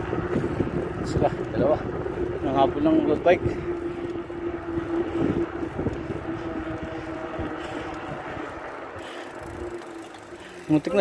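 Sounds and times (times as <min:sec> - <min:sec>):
droning hum of moving bike: 0:00.0 - 0:11.0
wind buffeting microphone: 0:00.0 - 0:11.0.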